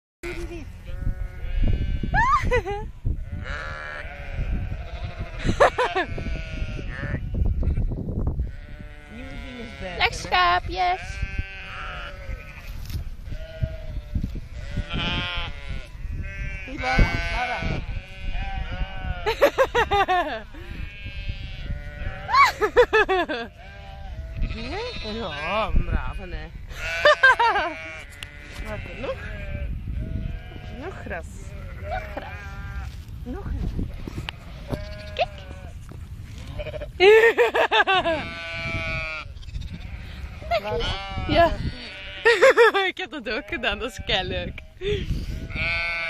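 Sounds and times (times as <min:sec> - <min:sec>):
sheep bleating: 0:00.2 - 0:02.4, 0:03.2 - 0:19.5, 0:20.7 - 0:22.7, 0:23.3 - 0:33.0, 0:34.0 - 0:35.8, 0:38.0 - 0:42.6, 0:43.3 - 0:46.0.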